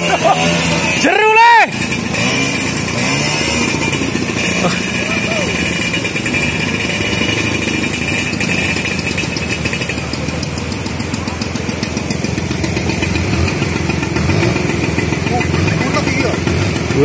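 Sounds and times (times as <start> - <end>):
scooter engines running: 0.0 - 17.0
scooters splashing through stream: 0.0 - 17.0.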